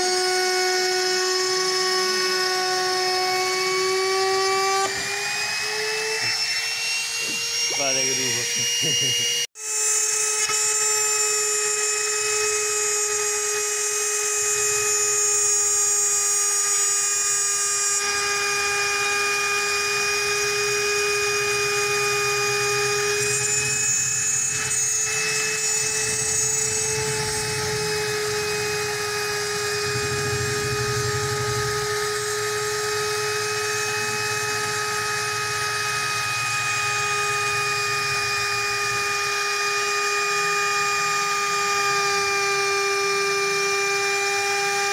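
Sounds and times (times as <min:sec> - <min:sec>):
electric router whining: 0:00.0 - 0:44.9.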